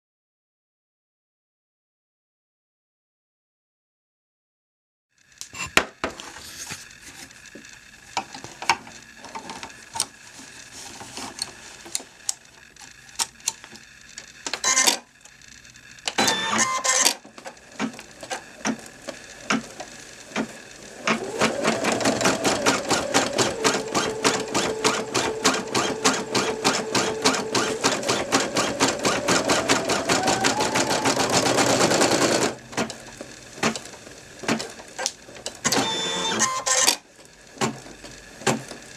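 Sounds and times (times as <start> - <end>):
embroidery machine clicks and whirs: 5.2 - 38.9
motor humming: 5.2 - 38.9.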